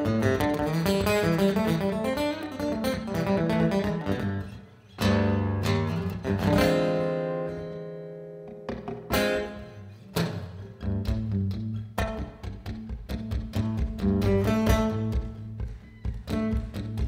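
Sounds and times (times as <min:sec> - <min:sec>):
acoustic guitar notes and strums: 0:00.0 - 0:17.0.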